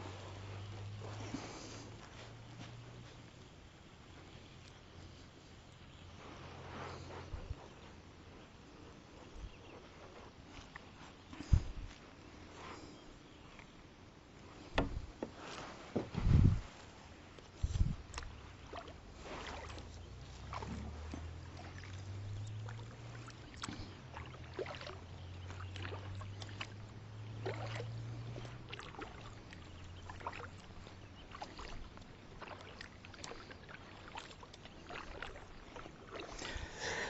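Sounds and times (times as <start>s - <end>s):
water lapping: 0.0s - 13.8s, 14.4s - 37.0s.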